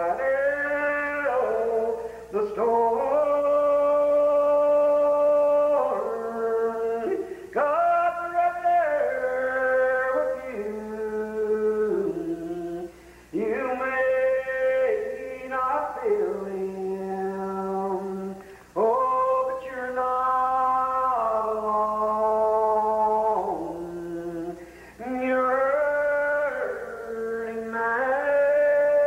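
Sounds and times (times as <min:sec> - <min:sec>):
man singing a hymn unaccompanied: 0:00.0 - 0:29.0.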